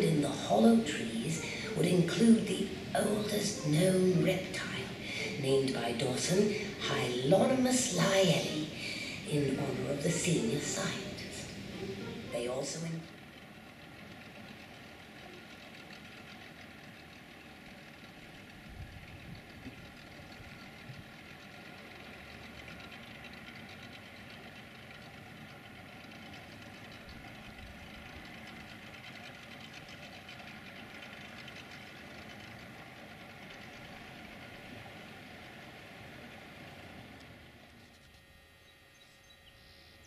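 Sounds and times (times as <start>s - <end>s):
outboard motorboat engine drone: 0.0s - 40.0s.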